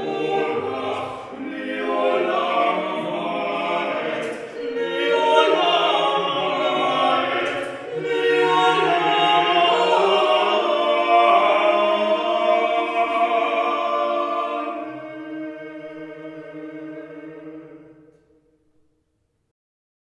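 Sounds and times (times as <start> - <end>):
voices singing a cappella: 0.0 - 18.3.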